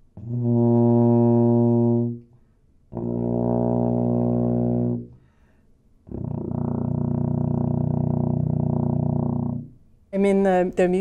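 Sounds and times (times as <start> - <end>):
tuba low held notes: 0.1 - 5.4, 6.1 - 9.8.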